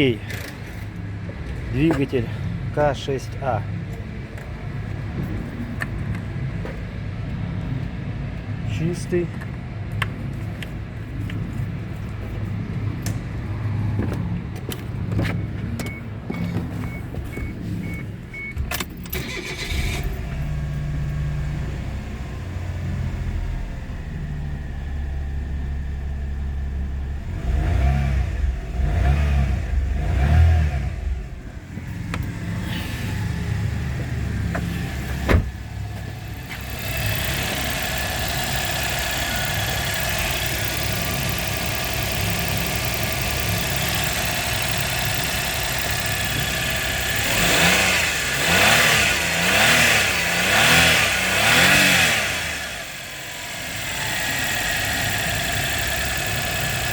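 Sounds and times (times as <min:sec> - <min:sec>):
car engine idling and revving: 0:00.0 - 0:56.9.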